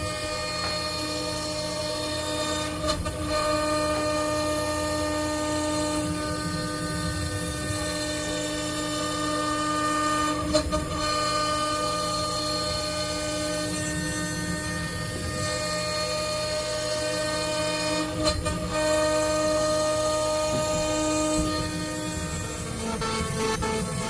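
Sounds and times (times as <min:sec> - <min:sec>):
router whine: 0:00.0 - 0:24.0.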